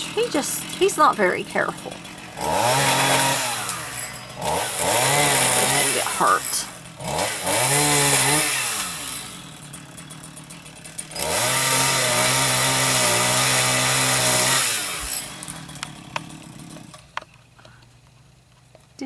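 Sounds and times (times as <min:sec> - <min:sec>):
chainsaw cutting: 0:00.0 - 0:18.9.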